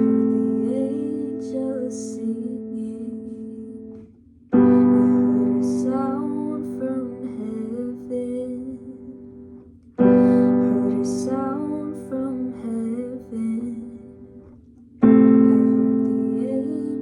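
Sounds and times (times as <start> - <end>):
piano chords: 0.0 - 17.0
woman singing softly: 0.0 - 17.0.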